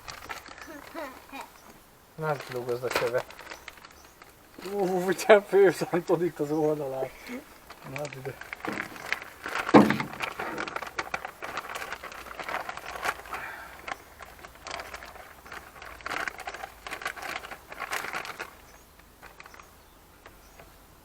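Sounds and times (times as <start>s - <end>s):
car parts rustling and clicking: 1.6s - 20.8s.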